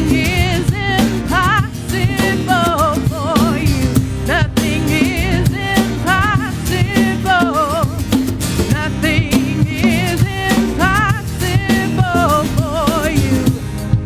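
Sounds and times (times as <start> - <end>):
drum kit: 0.0 - 14.0
live worship band music: 0.0 - 14.0.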